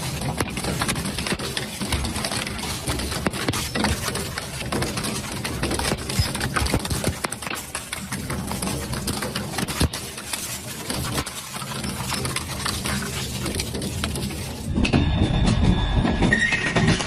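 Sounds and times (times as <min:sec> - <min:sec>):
shredder grinding and crushing: 0:00.0 - 0:14.7.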